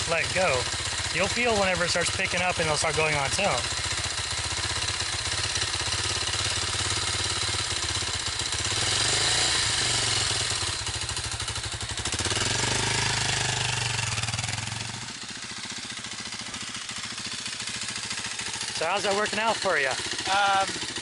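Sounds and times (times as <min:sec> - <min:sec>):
motorcycle engine pulsing: 0:00.0 - 0:21.0.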